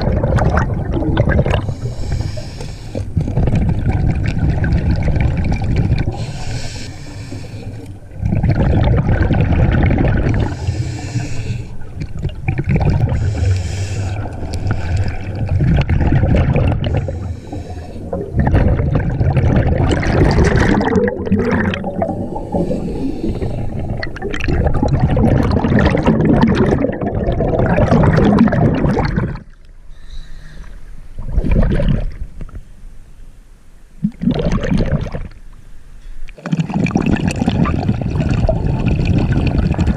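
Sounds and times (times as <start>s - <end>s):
diver regulator air bubbling: 0.0s - 29.6s, 34.0s - 35.4s, 36.4s - 39.9s.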